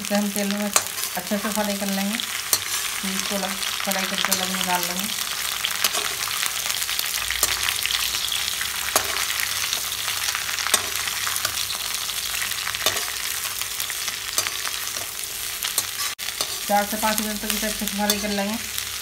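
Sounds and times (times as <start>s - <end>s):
food sizzling in hot oil: 0.0s - 19.0s
spatula scraping a pan: 2.3s - 18.5s.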